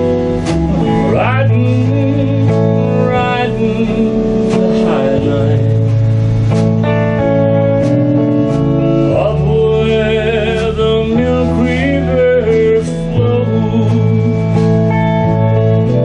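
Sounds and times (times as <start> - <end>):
live country band playing: 0.0 - 16.0.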